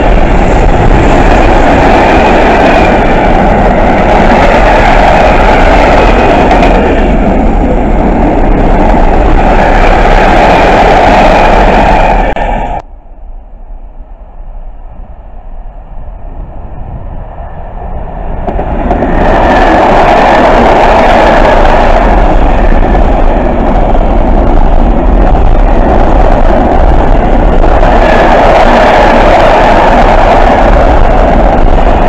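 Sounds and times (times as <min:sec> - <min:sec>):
freight train rolling on rails: 0:00.0 - 0:32.0.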